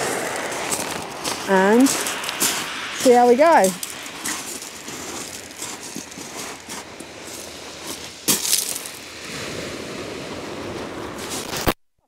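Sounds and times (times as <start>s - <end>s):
waves on shingle beach: 0.0s - 11.7s
wind on microphone: 0.0s - 11.7s.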